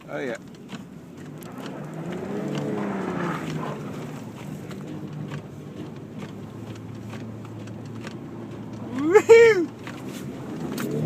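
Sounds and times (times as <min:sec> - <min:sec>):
car engine under throttle: 0:00.0 - 0:11.0
scattered clicks: 0:00.1 - 0:11.0.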